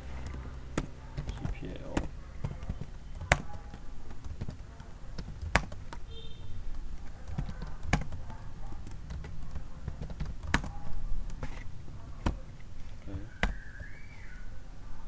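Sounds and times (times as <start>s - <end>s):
keyboard keys clicking: 0.0s - 13.9s.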